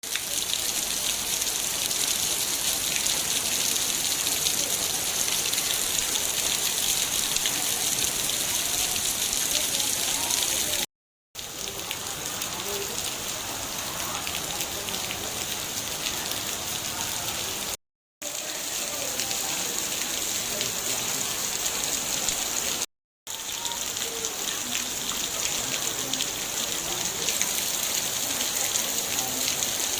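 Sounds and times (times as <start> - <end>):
rain pattering on a surface: 0.0 - 29.9.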